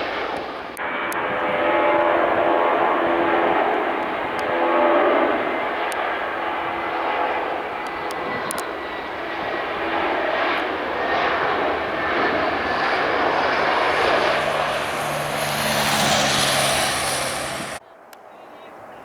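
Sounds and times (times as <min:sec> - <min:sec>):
high engine whine: 0:00.0 - 0:17.8
jet engines rushing: 0:00.0 - 0:17.8.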